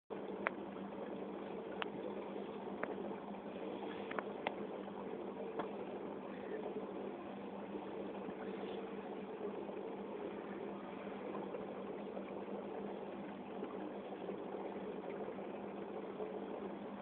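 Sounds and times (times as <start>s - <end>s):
aquarium pump hum: 0.1s - 17.0s
water bubbling and fizzing: 0.1s - 17.0s.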